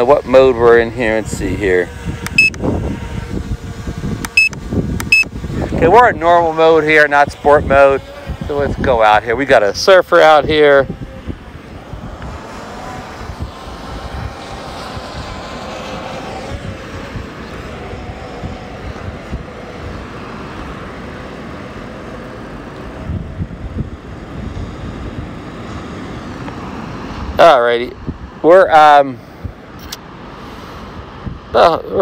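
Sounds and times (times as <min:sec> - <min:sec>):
drone propellers humming: 0:00.0 - 0:32.0
wind rumbling on microphone: 0:00.0 - 0:32.0.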